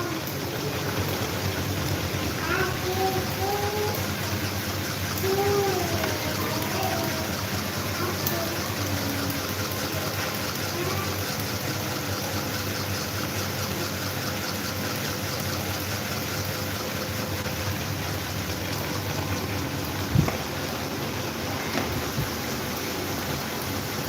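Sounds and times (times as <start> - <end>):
electric fan running: 0.0 - 24.0.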